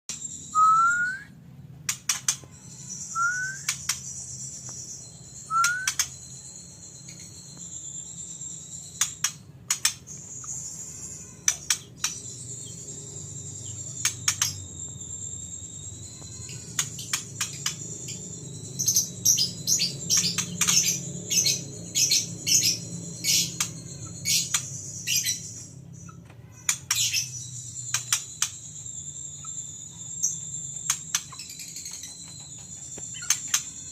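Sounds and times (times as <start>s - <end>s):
bird singing: 0.1s - 33.9s.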